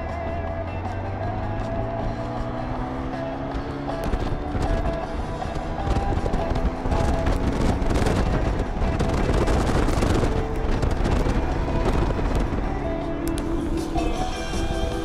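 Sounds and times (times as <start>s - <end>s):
faint music: 0.0s - 15.0s
wind buffeting microphone: 0.0s - 15.0s.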